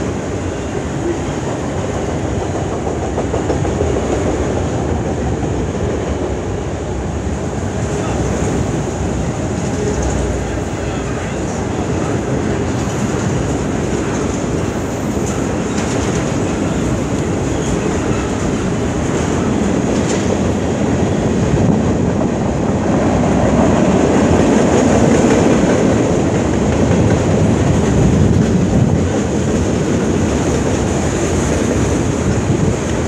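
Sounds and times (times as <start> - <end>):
freight train wheels on track: 0.0 - 33.0.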